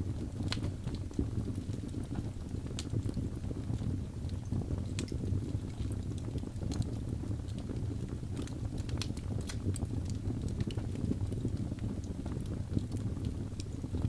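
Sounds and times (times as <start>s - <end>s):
logs crackling and popping: 0.0s - 14.0s
low rumble of flame: 0.0s - 14.0s.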